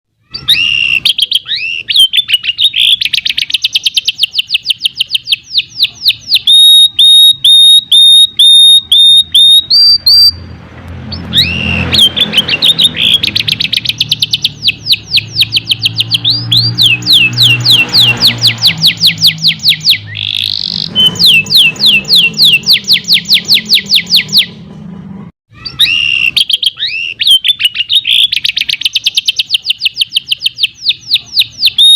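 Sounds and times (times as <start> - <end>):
canary singing trills: 0.2 - 24.7, 25.5 - 31.9.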